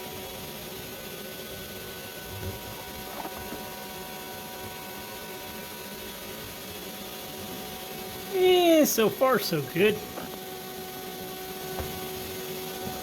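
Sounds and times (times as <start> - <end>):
welding machine humming: 0.0 - 13.0.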